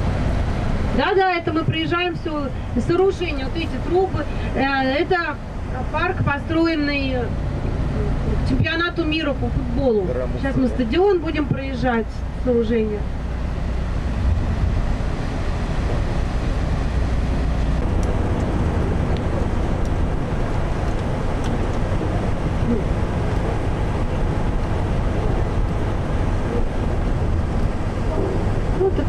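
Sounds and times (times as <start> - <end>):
engine and tyre rumble: 0.0 - 29.0.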